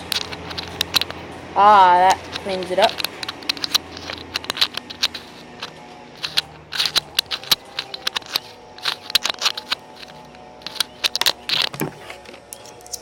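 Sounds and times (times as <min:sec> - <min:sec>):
short scraping rubs: 0:00.0 - 0:12.2
plastic clip clicks: 0:02.0 - 0:13.0.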